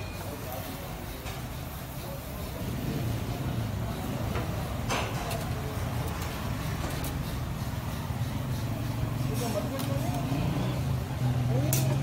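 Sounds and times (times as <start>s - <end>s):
busy street rumble: 0.0s - 12.0s.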